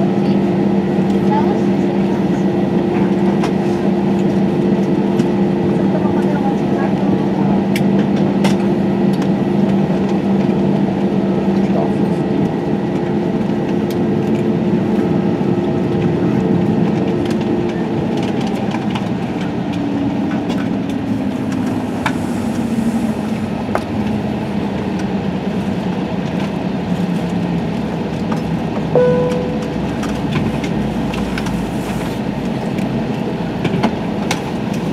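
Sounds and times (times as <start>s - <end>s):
aircraft engines humming: 0.0s - 34.9s.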